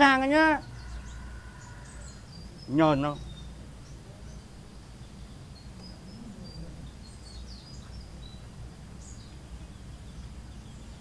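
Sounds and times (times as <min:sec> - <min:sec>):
bird chirps: 0:00.0 - 0:11.0
steady low hum: 0:00.0 - 0:11.0.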